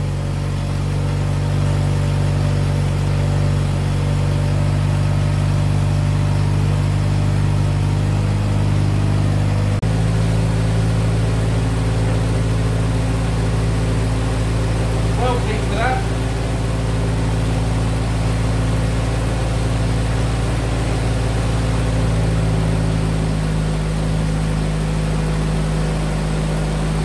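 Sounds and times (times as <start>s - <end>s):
jeep engine idling: 0.0s - 27.0s.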